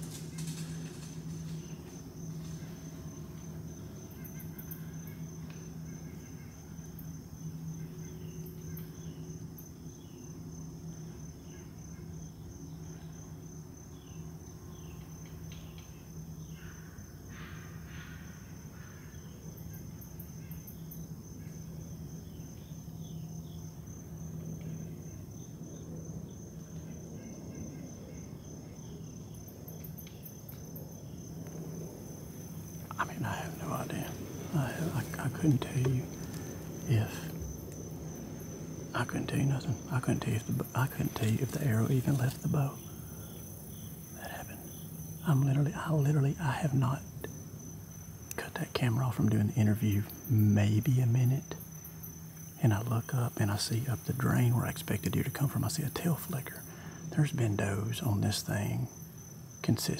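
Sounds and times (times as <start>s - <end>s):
insects trilling: 0.0s - 59.9s
low steady hum: 0.0s - 59.9s.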